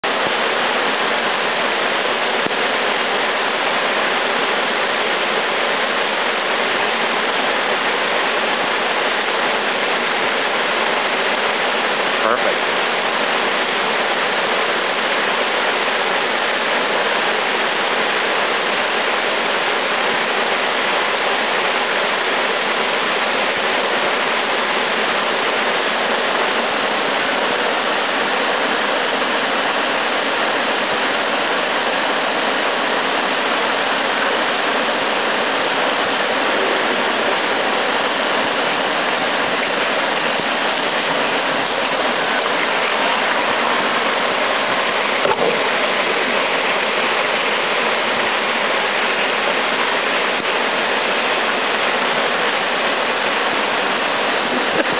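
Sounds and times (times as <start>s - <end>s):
river rapids roaring: 0.0s - 54.9s.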